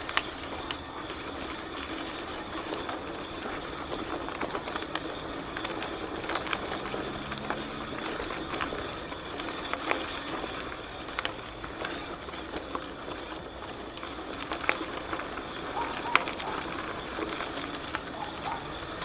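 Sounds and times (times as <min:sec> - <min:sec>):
bicycle rolling on path: 0:00.0 - 0:19.0.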